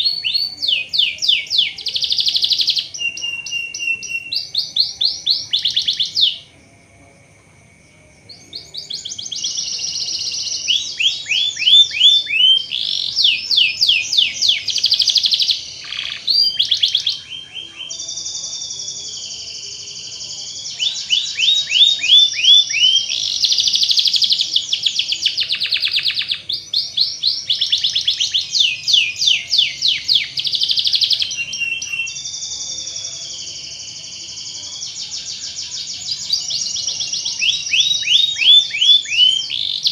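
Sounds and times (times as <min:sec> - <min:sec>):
canary singing trills: 0:00.0 - 0:06.5, 0:08.2 - 0:39.9.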